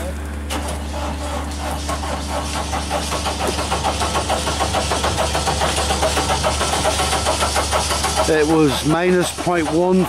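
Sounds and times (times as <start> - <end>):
boom lift engine throbbing: 0.6 - 10.0.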